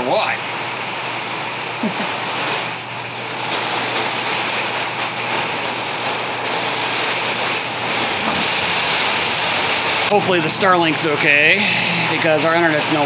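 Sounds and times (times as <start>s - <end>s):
heavy rain on vehicle walls: 0.5s - 13.0s.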